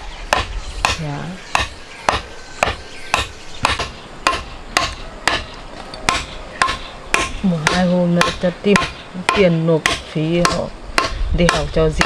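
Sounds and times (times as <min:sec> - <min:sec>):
chopping blows: 0:00.3 - 0:12.0.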